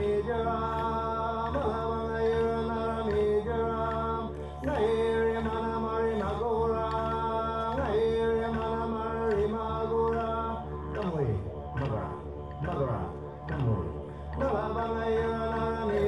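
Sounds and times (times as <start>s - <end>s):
chanted singing: 0.0s - 16.0s
steady low drone: 0.0s - 16.0s.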